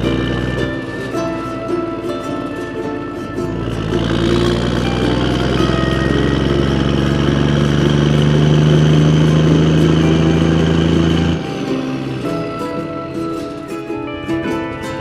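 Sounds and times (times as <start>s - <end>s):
motor engine running: 0.0s - 13.7s
background music: 0.0s - 15.0s
plucked-string music: 0.0s - 15.0s.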